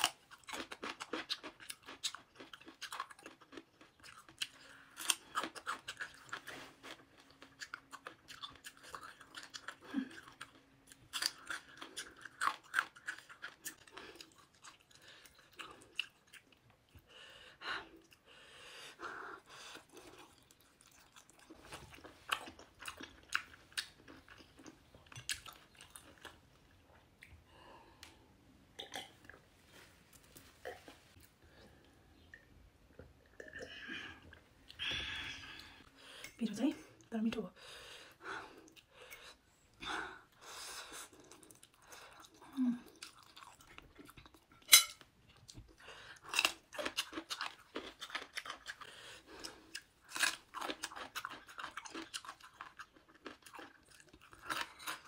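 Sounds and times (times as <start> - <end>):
person chewing crunchy food: 0.0 - 28.2, 38.0 - 55.0.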